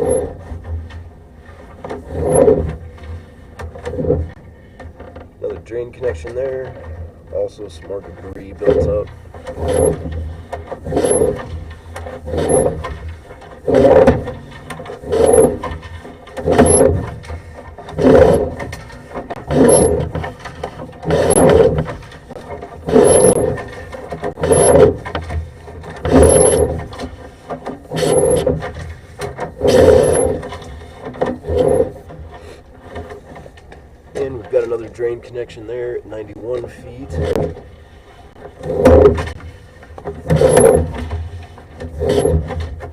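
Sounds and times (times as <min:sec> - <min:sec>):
cable scraping in drain pipe: 0:00.0 - 0:42.9.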